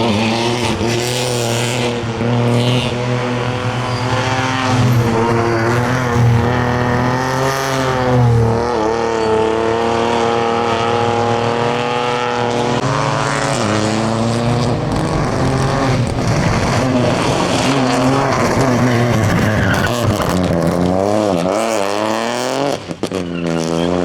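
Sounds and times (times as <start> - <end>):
rally car engine at high revs: 0.0 - 24.0.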